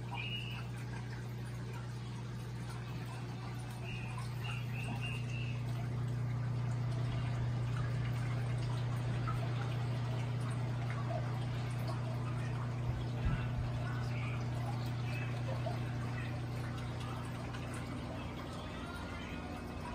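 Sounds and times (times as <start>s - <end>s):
aquarium pump hum: 0.0s - 19.9s
water trickling and splashing: 0.0s - 19.9s.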